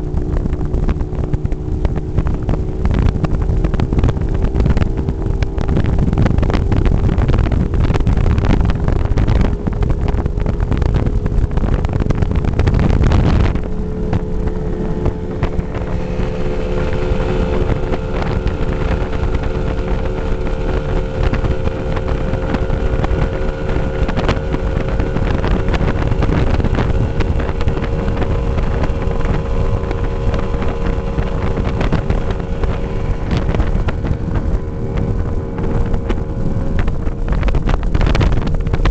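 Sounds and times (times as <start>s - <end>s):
outboard engine running at high speed: 0.0s - 38.9s
wind buffeting microphone: 0.0s - 38.9s.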